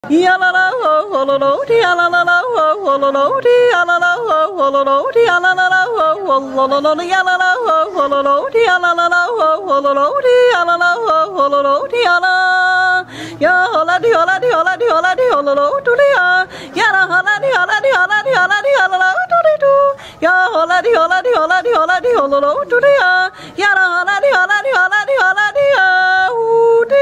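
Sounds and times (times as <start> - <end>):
woman yodeling: 0.1 - 27.0.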